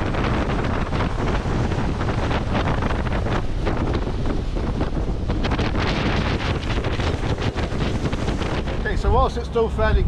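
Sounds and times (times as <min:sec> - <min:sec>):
boat wake and spray rushing: 0:00.0 - 0:10.0
wind buffeting microphone: 0:00.0 - 0:10.0.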